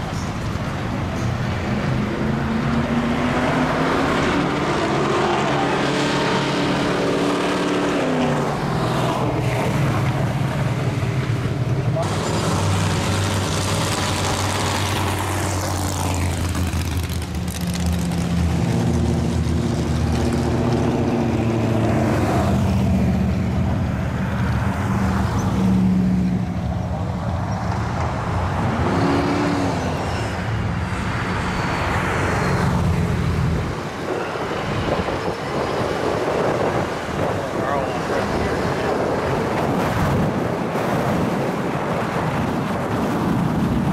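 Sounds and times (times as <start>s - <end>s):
cars driving past: 0.0s - 43.9s
road noise: 0.0s - 43.9s.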